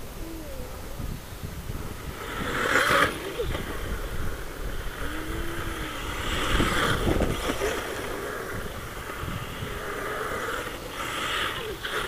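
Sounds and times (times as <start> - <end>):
distant electric rc car: 0.0 - 12.0
wind buffeting microphone: 0.0 - 12.0.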